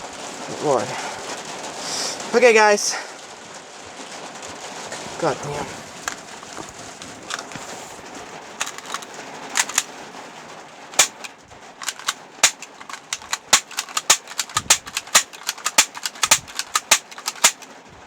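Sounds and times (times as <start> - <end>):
soft hiss of rain: 0.0 - 18.0.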